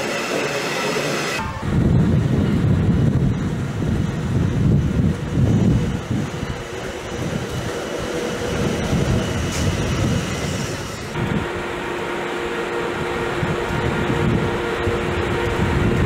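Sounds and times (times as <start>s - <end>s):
electric locomotive running past: 0.0s - 16.0s.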